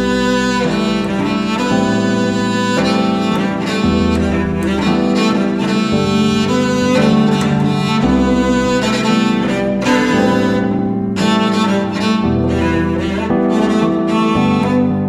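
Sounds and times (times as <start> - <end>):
cello bowed in sustained notes: 0.0 - 15.0
deep bass notes: 0.0 - 15.0.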